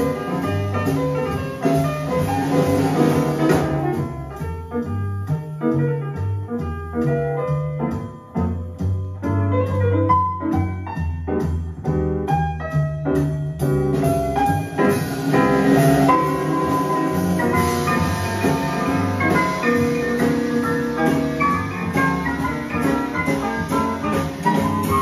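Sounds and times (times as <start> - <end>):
jazz piano: 0.0 - 25.0
walking bass line: 0.0 - 25.0.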